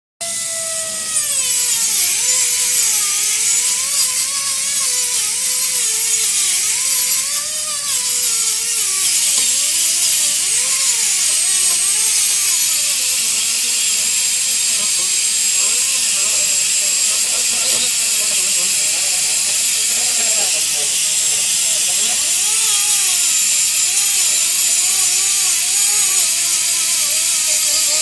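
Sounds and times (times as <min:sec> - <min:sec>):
air grinder whine: 0:00.2 - 0:28.0.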